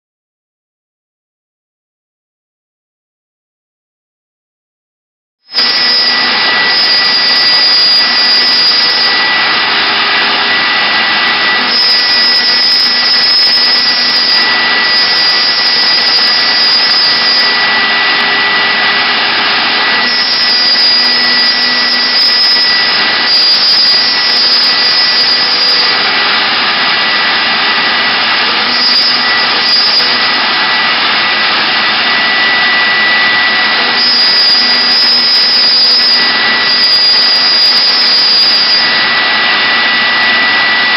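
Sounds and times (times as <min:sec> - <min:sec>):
router spindle whine: 0:05.4 - 0:40.9
cutter milling wood: 0:05.5 - 0:40.9.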